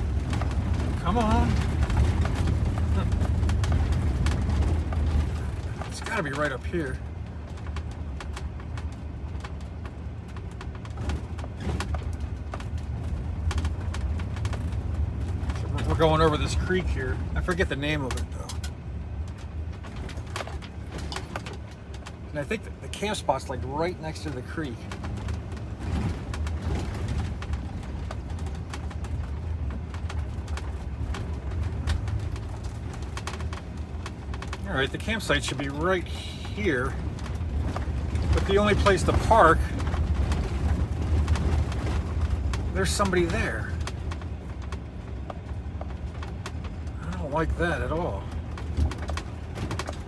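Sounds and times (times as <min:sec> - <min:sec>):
engine and tyres rumbling: 0:00.0 - 0:50.0
gravel crackling under wheels: 0:00.0 - 0:50.0.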